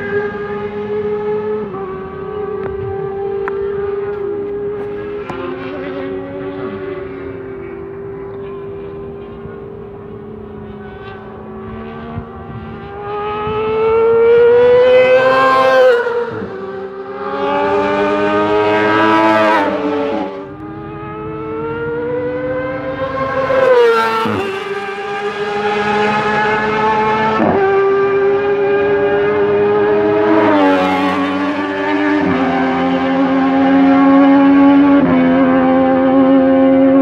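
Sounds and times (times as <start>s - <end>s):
racing motorcycle engine revving: 0.0s - 37.0s.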